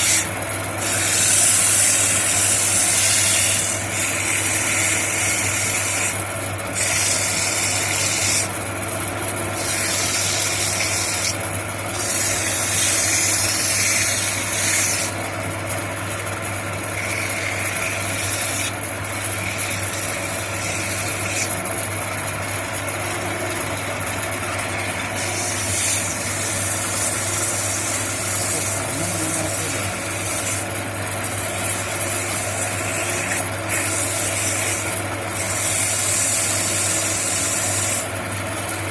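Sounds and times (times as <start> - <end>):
cutter rasping into wood: 0.0 - 38.9
motor humming: 0.0 - 38.9.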